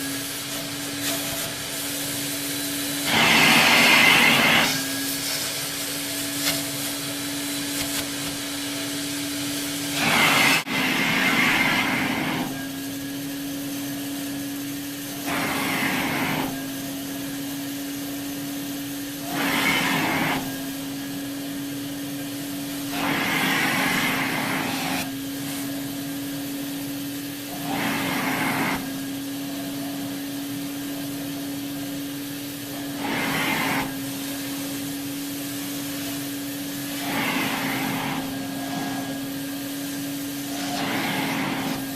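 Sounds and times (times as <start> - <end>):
air rushing through vacuum: 0.0 - 41.9
vacuum cleaner motor hum: 0.0 - 41.9.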